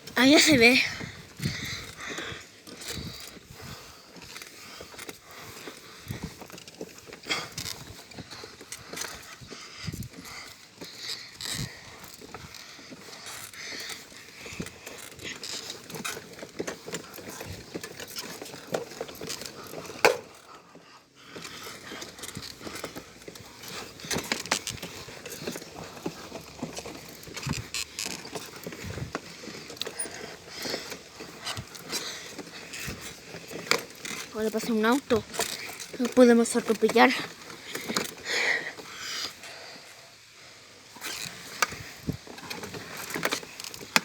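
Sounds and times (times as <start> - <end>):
pedalled vehicle rattling: 0.0 - 20.7, 21.5 - 38.8.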